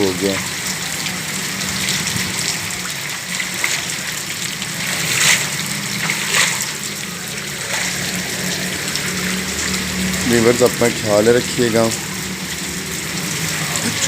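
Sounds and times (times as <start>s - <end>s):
heavy rain falling: 0.0s - 14.0s
rainwater gushing through channel: 0.0s - 14.0s
water splashes: 0.0s - 14.0s.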